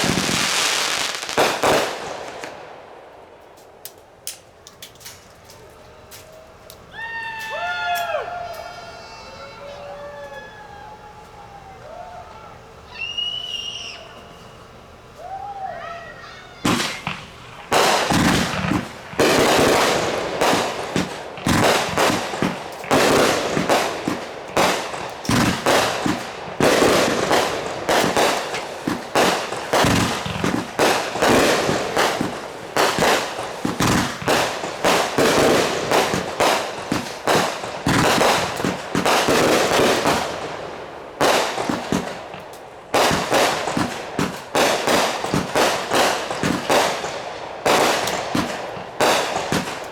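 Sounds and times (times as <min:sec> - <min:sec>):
fireworks bangs and crackles: 0:00.0 - 0:10.9, 0:16.3 - 0:49.9.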